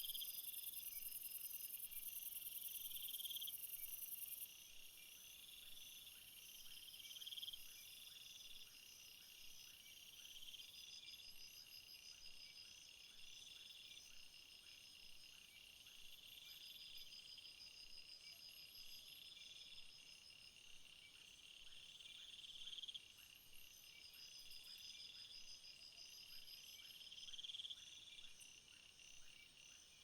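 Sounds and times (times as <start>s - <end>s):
crickets chirping: 0.0s - 30.0s
insect trill: 0.0s - 30.0s.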